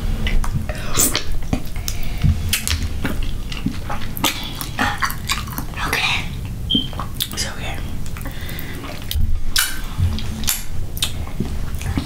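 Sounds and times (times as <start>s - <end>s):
chewing and wet mouth sounds: 0.2s - 12.0s.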